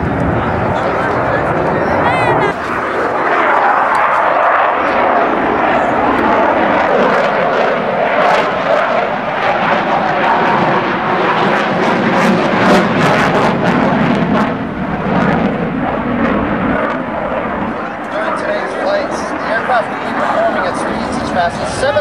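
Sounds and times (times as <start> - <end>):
military aircraft engine flying past: 0.0 - 22.0.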